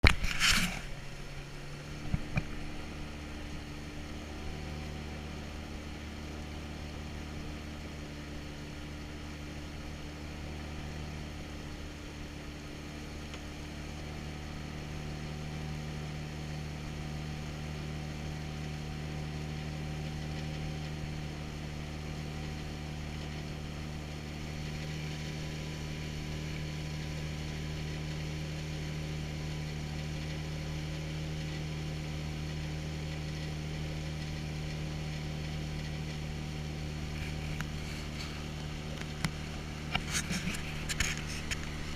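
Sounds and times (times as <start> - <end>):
boat motor droning: 0.0 - 41.9.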